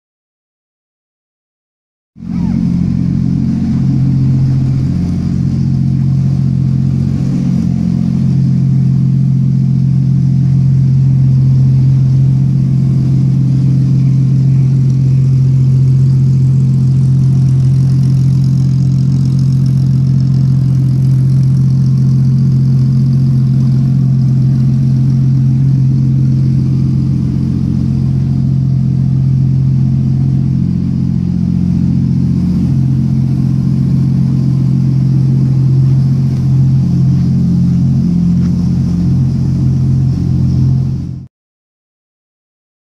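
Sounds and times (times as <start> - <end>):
car engine idling: 2.2 - 41.3.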